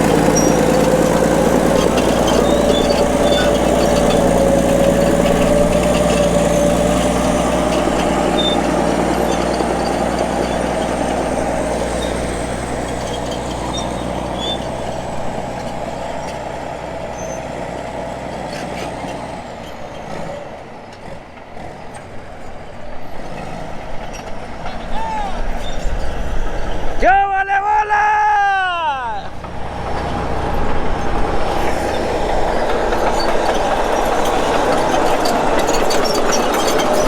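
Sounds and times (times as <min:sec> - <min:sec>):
heavy diesel engine running: 0:00.0 - 0:27.2, 0:27.9 - 0:37.0.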